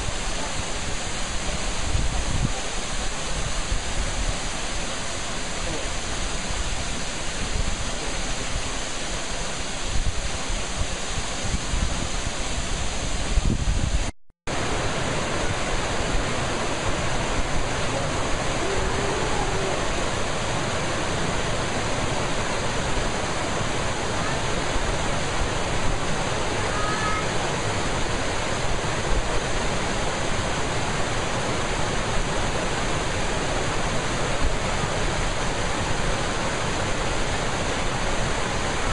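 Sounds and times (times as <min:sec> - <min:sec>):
waterfall pouring down a cliff: 0:00.0 - 0:13.5, 0:14.5 - 0:38.9.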